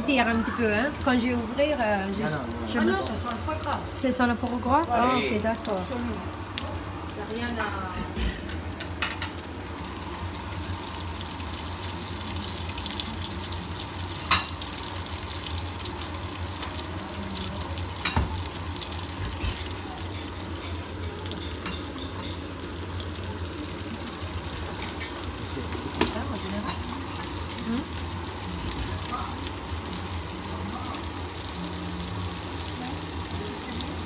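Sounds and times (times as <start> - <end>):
food sizzling in hot fat: 0.0 - 34.0.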